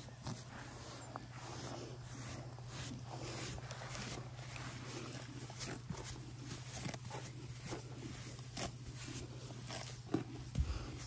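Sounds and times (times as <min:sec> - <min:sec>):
brush scratching over horse coat: 0:00.0 - 0:11.0.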